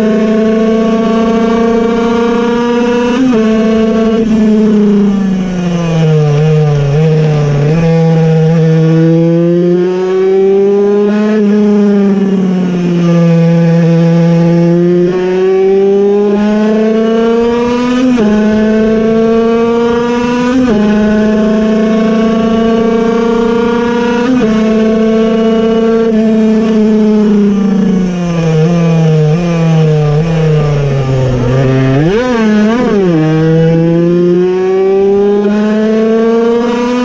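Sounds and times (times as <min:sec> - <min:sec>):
two-stroke engine revving: 0:00.0 - 0:37.0.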